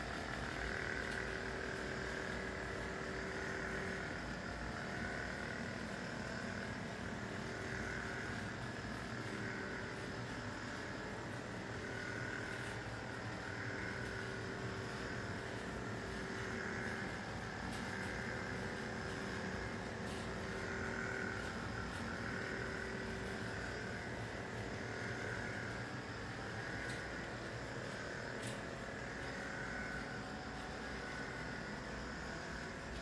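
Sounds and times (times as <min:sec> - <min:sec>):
faint constant tone: 0:00.0 - 0:33.0
room hum and hiss: 0:00.0 - 0:33.0.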